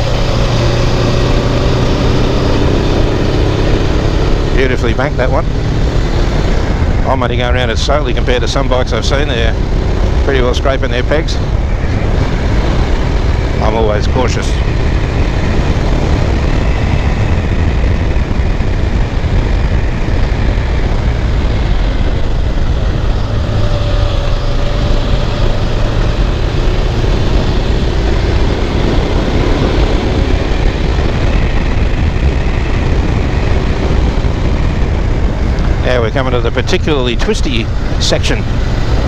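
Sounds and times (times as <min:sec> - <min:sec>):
motorcycle engine running: 0:00.0 - 0:39.0
wind rumble on microphone: 0:00.0 - 0:39.0.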